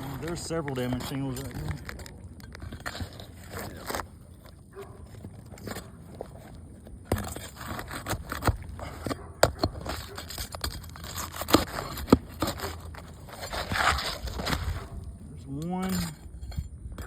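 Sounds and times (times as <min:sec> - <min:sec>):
shingles scraping and cracking: 0:00.0 - 0:17.0.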